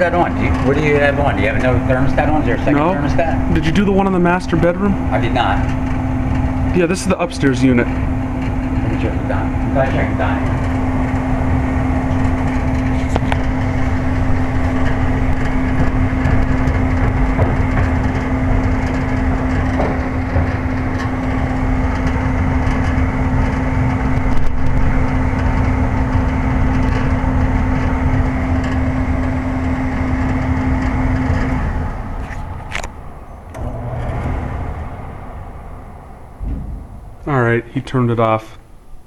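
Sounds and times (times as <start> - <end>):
furnace blower humming: 0.0 - 39.0.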